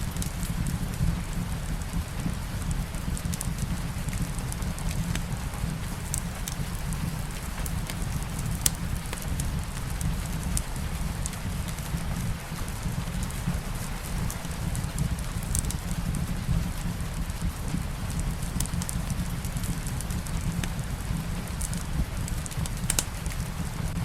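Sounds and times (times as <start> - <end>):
light rain falling: 0.0 - 24.0
wood fire crackling: 0.0 - 24.0.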